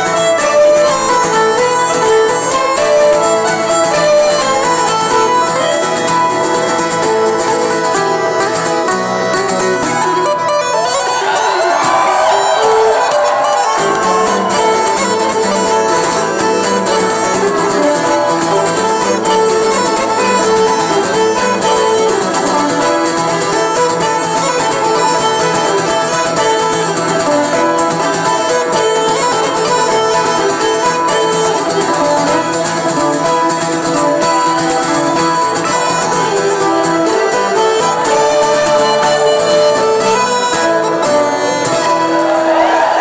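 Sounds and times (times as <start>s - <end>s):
fiddle: 0.0s - 43.0s
plucked strings: 0.0s - 43.0s
traditional band playing: 0.0s - 43.0s.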